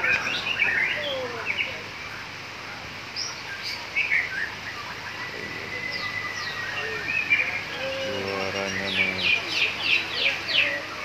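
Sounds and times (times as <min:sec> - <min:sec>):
long steady bird whistle: 0:00.0 - 0:02.2, 0:03.2 - 0:11.0
birds whistling and chirping: 0:00.0 - 0:02.3, 0:03.1 - 0:11.0.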